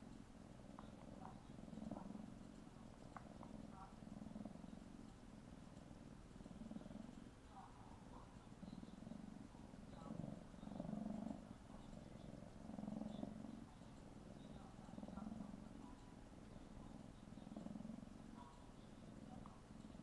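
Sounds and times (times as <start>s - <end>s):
kitten purring: 0.0s - 20.0s.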